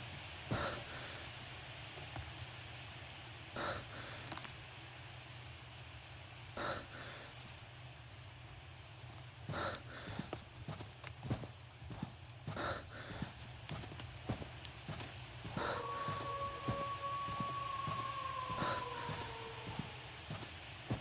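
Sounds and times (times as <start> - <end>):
cricket chirping: 0.5 - 6.2, 7.4 - 21.0.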